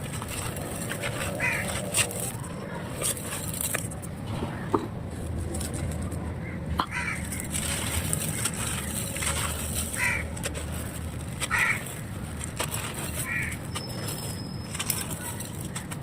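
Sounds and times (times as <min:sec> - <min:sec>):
dry clay crunching: 0:00.0 - 0:16.0.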